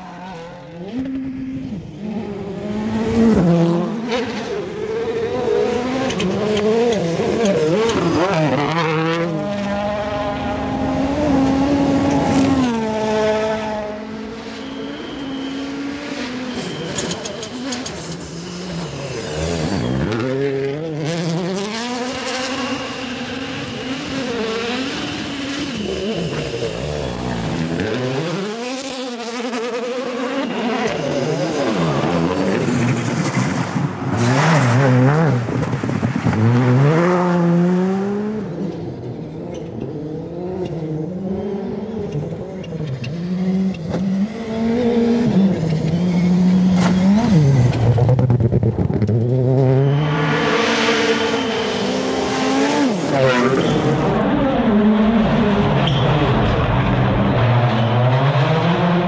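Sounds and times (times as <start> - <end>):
rally car engines at full throttle: 0.0 - 59.0.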